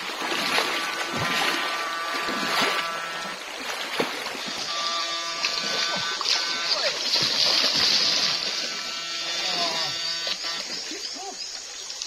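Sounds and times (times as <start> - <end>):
wading and splashing in stream: 0.0 - 12.0
electric whine: 0.6 - 11.1.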